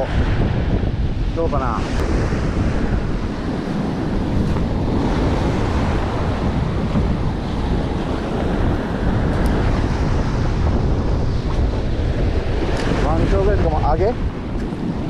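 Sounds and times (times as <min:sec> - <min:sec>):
strong wind buffeting microphone: 0:00.0 - 0:15.0
surf breaking on beach: 0:00.0 - 0:15.0.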